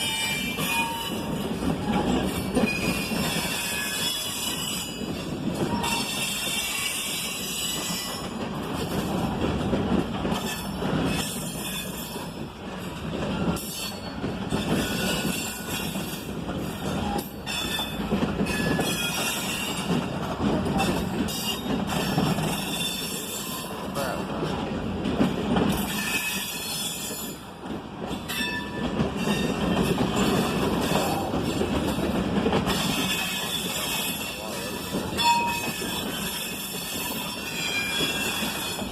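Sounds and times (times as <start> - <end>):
wheels clacking over rail joints: 0.0 - 38.9.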